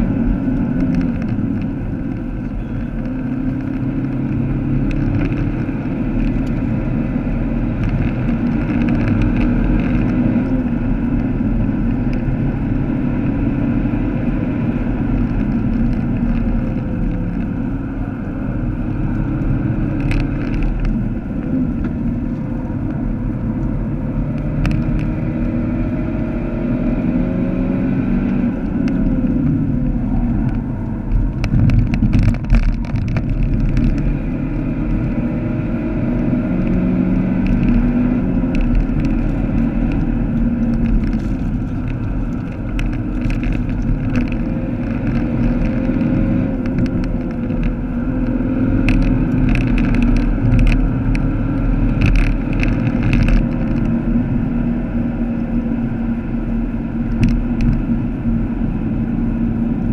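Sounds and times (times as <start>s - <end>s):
car engine running under load: 0.0s - 59.9s
tyre and road noise: 0.0s - 59.9s.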